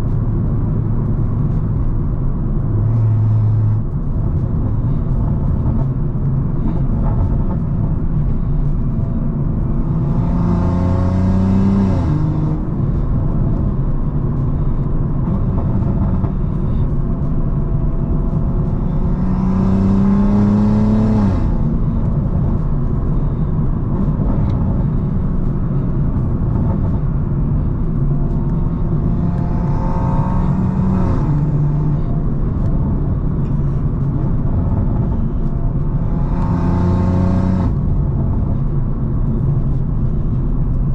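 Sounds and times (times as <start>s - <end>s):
car engine accelerating hard: 0.0s - 40.9s
engine and road drone: 0.0s - 40.9s.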